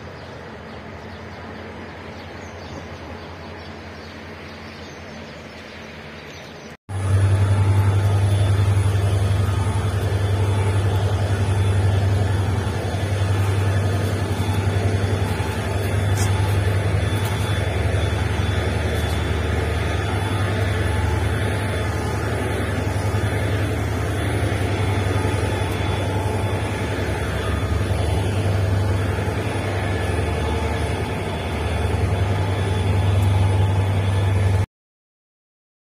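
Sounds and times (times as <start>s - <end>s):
train running drone and rumble: 0.0s - 34.7s.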